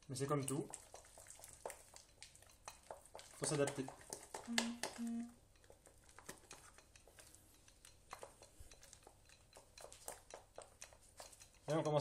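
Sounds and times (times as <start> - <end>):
wooden spoon beating dough: 0.0 - 12.0.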